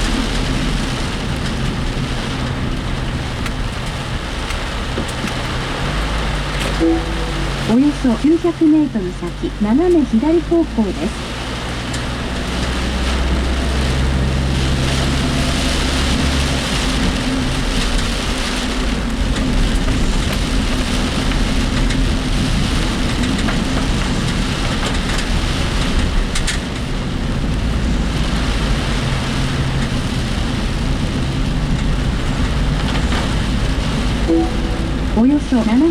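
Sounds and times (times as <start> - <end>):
low engine hum: 0.0 - 35.9
rain hissing: 0.0 - 35.9
tyres on wet road: 0.0 - 35.9.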